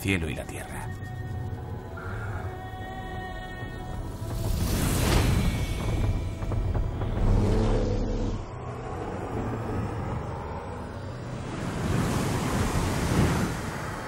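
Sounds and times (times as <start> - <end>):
deep rumble: 1.0 - 14.0.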